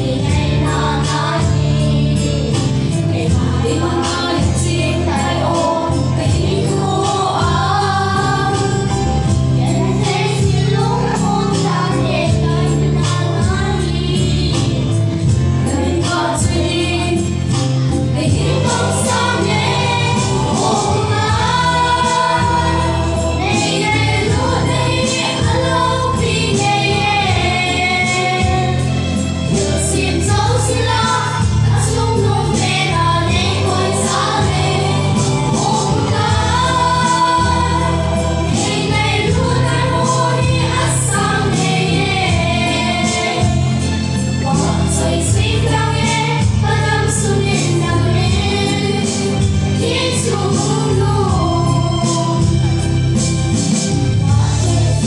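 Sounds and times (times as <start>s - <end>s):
girls singing gospel song: 0.0s - 53.0s, 53.6s - 55.0s
instrumental accompaniment with bass: 0.0s - 55.0s.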